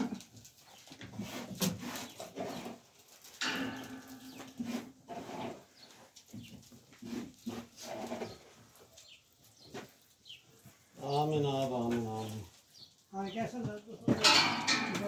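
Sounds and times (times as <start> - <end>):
rustling: 0.0 - 13.1.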